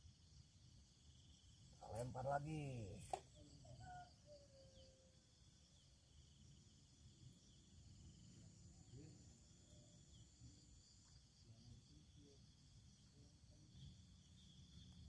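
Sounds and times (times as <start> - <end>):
faint insect chirring: 0.0 - 15.0.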